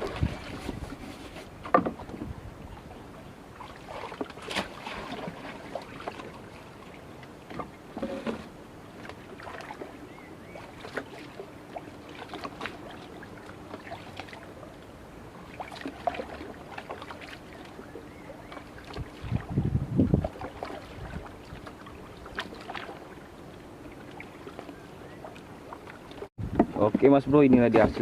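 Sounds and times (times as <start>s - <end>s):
water splashing and sloshing: 0.0s - 28.0s.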